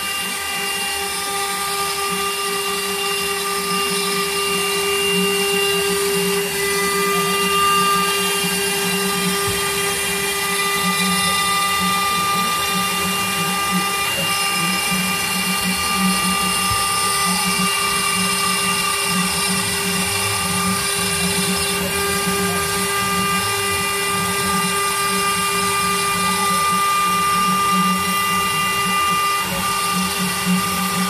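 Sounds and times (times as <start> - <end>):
low drone of cutting: 0.0 - 31.0
router spindle whine: 0.0 - 31.0.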